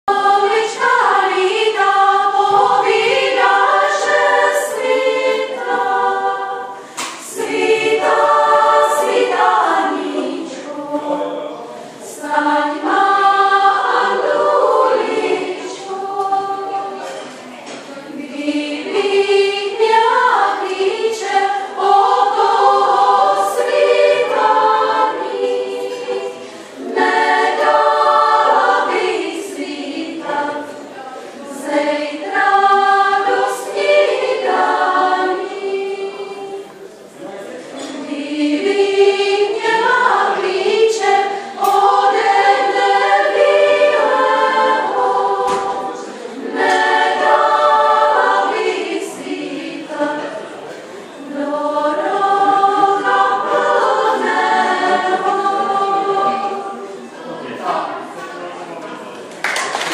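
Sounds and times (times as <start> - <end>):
women's choir singing a cappella: 0.0 - 59.9.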